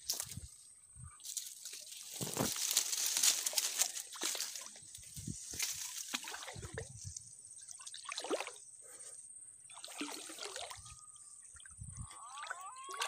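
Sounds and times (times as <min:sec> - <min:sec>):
water sloshing and trickling: 0:01.2 - 0:13.0.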